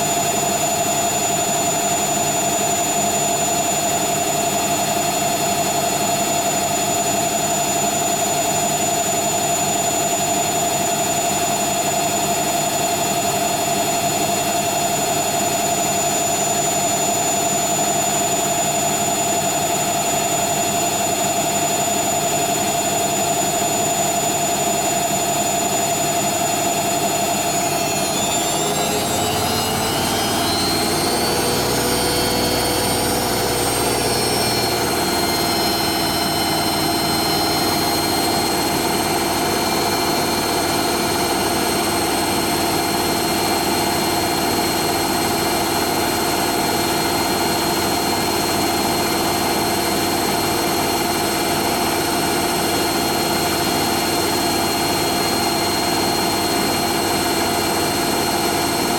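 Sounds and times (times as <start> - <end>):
washing machine spin whine: 0.0 - 58.9.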